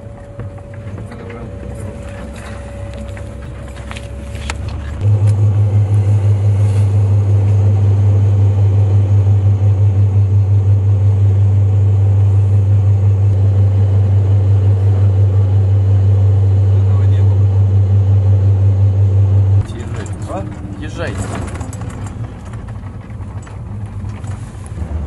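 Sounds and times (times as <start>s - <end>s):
vehicle interior engine hum: 0.0s - 25.0s.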